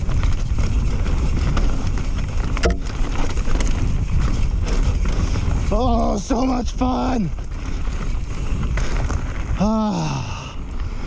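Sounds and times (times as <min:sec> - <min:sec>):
bike tyres on dirt trail: 0:00.0 - 0:11.0
wind rumble on microphone: 0:00.0 - 0:11.0.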